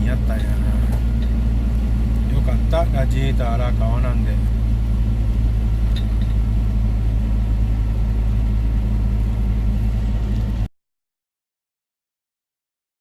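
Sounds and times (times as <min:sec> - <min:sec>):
car engine running: 0:00.0 - 0:10.7.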